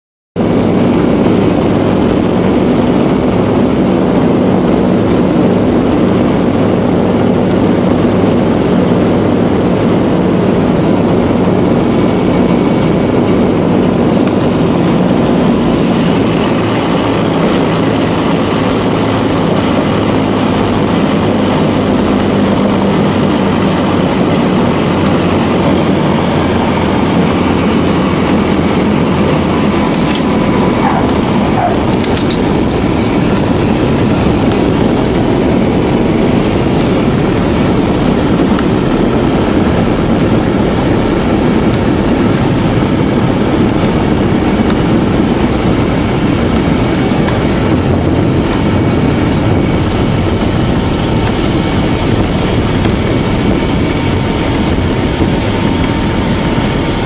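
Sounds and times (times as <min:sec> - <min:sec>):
propeller engines droning: 0:00.4 - 0:57.0.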